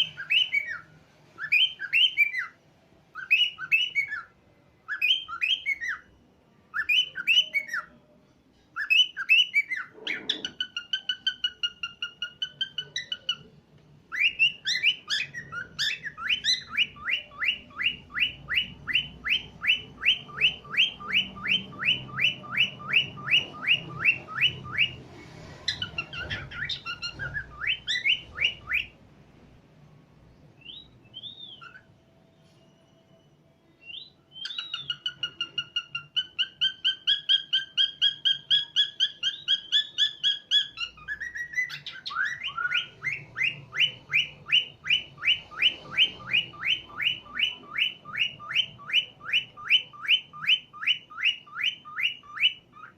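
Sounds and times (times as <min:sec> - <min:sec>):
cockatiels chirping and whistling: 0:00.0 - 0:08.0, 0:08.7 - 0:29.0, 0:30.6 - 0:52.9.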